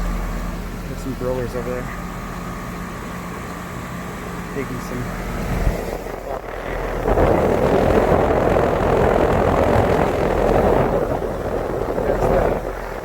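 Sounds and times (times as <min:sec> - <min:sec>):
air conditioner fan rushing: 0:00.0 - 0:13.0
low compressor hum: 0:00.0 - 0:13.0.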